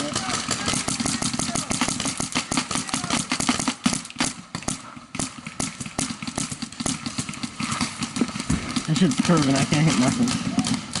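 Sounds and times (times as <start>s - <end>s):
paintball marker rapid firing: 0.0s - 11.0s.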